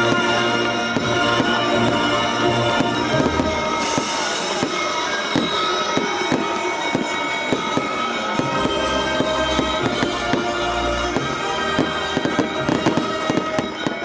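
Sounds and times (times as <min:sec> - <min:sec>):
firework hiss: 0:00.0 - 0:14.0
fireworks bangs and pops: 0:00.0 - 0:14.0
music with held notes: 0:00.0 - 0:14.0.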